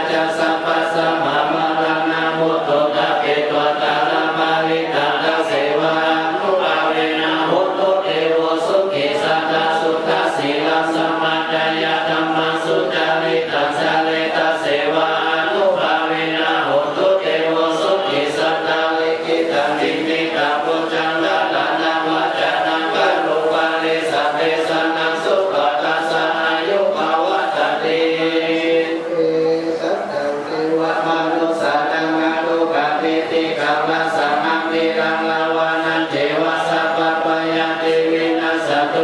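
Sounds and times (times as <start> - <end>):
group chanting prayer: 0.0 - 39.0.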